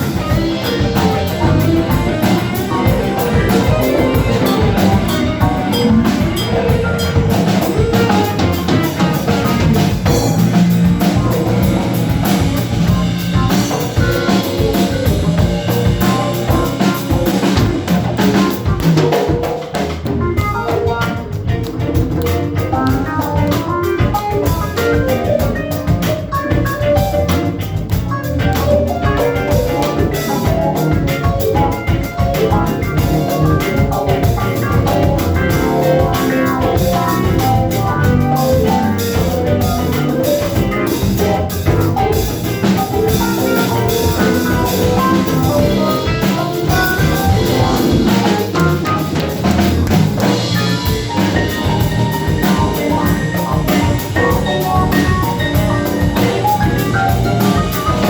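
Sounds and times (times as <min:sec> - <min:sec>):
drum kit beat: 0:00.0 - 0:58.0
live funk band playing: 0:00.0 - 0:58.0.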